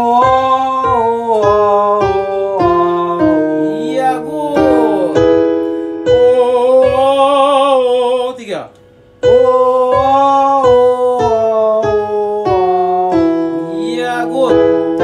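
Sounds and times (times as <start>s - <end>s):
person singing scale exercise: 0.0s - 15.0s
piano accompaniment: 0.0s - 15.0s.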